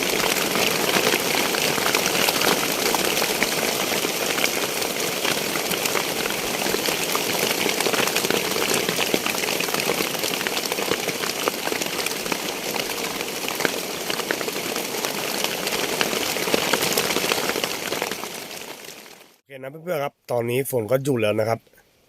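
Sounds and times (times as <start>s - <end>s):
heavy rain on a roof: 0.0s - 19.4s.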